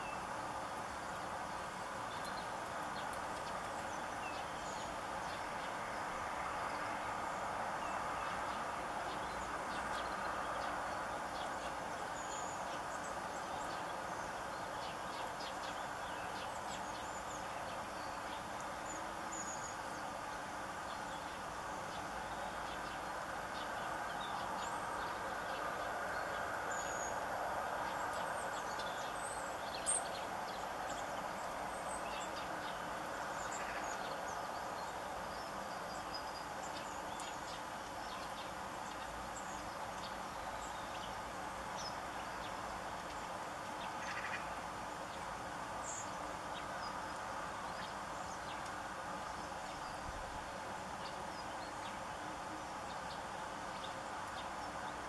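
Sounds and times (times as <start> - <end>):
small birds chirping: 0.0 - 6.0, 6.6 - 55.0
steady background noise: 0.0 - 55.0.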